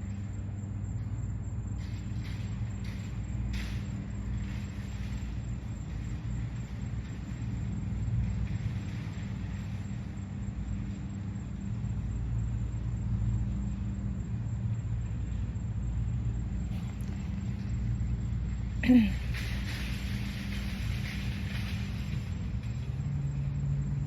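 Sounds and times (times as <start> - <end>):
constant hum: 0.0 - 24.0
low engine rumble: 0.0 - 24.0.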